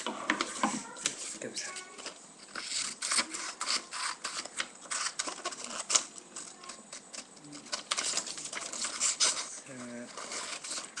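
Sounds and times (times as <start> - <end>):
scissors cutting paper: 0.5 - 11.0.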